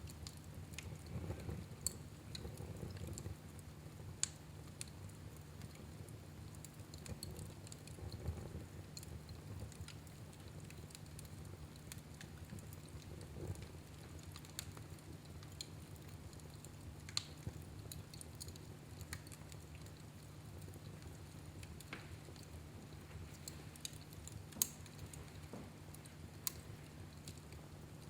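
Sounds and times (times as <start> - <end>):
fire crackling in a fireplace: 0.0 - 28.0.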